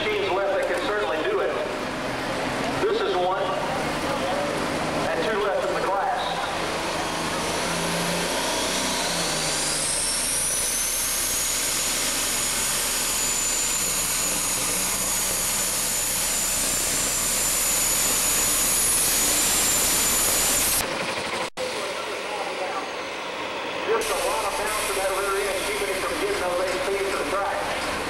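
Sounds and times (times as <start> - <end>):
tractor engine running flat out: 0.0 - 22.6, 24.0 - 28.0
high turbo whine: 0.0 - 28.0.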